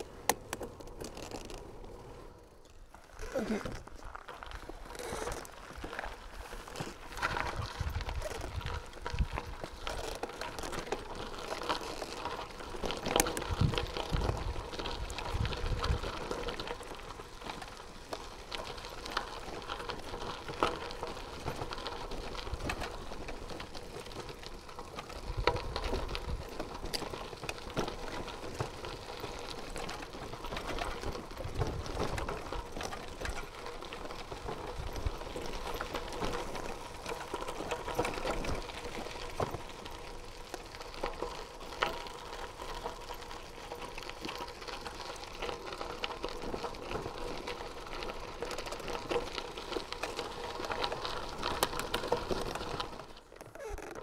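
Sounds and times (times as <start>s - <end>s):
bicycle tyres rolling on gravel: 0.0s - 54.0s.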